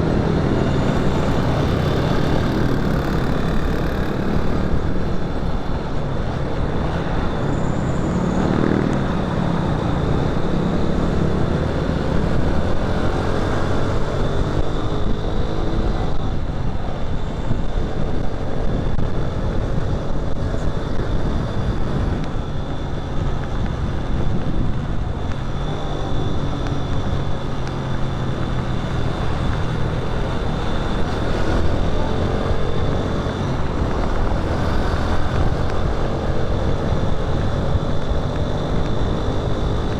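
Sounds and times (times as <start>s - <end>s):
motorcycle engine running: 0.0s - 39.9s
traffic noise: 0.0s - 39.9s.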